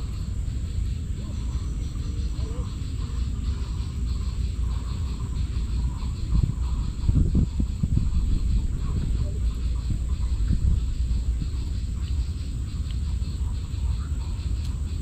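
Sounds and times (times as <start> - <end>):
continuous low rumble: 0.0 - 15.0
insects chirping: 0.0 - 15.0.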